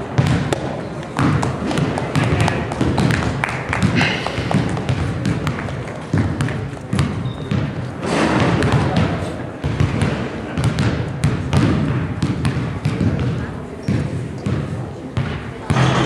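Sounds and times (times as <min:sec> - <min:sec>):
people chattering: 0:00.0 - 0:16.0
basketball bouncing on wood floor: 0:00.2 - 0:16.0.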